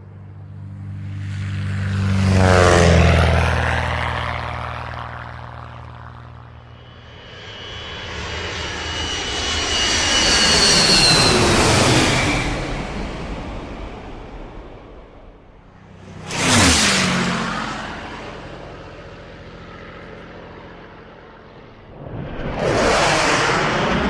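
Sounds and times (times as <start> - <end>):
machine engine droning past: 0.2 - 24.0.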